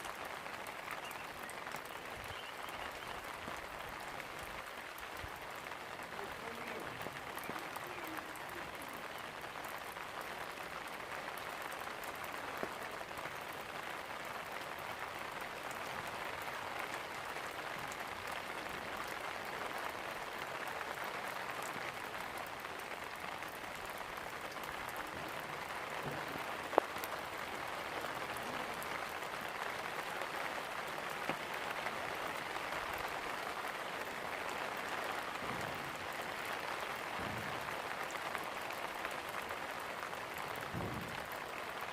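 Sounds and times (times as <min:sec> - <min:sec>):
steady rain: 0:00.0 - 0:41.9.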